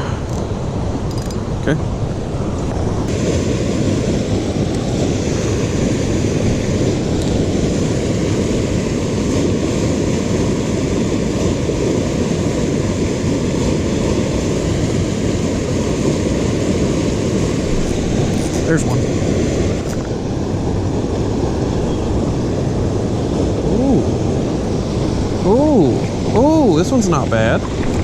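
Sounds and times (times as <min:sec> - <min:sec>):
fast-flowing river water: 0:03.0 - 0:28.0.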